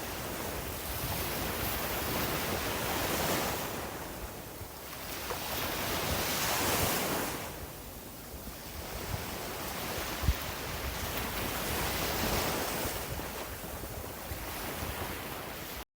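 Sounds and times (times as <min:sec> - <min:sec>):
sea waves breaking: 0:00.0 - 0:15.8
wind on microphone: 0:00.0 - 0:15.8.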